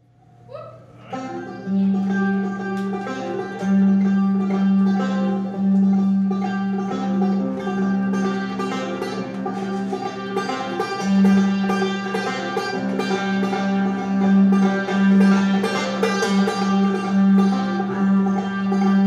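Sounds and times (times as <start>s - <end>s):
banjo picking: 1.0s - 19.0s
bowed double bass: 1.0s - 19.0s.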